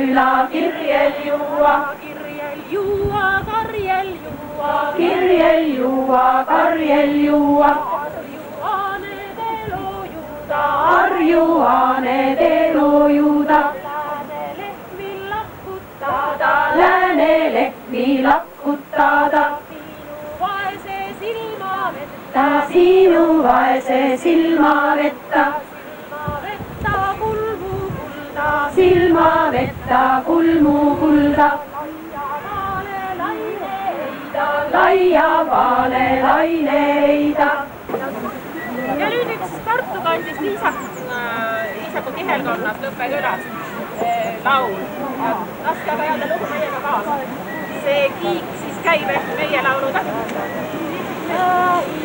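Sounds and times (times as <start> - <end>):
women's choir singing: 0.0 - 52.0.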